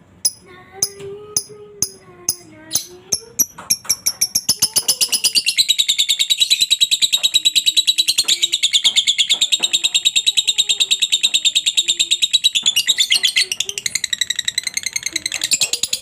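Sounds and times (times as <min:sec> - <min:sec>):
lovebird chattering: 0:00.2 - 0:16.0.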